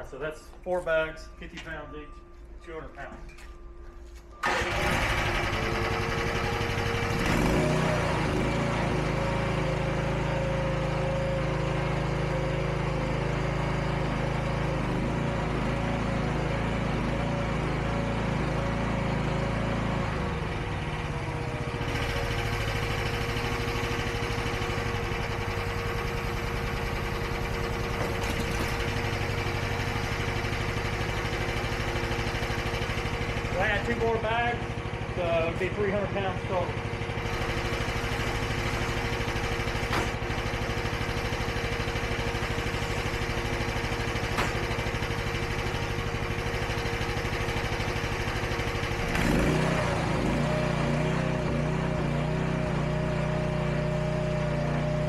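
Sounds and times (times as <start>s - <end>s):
skid steer engine whining: 0.0s - 55.0s.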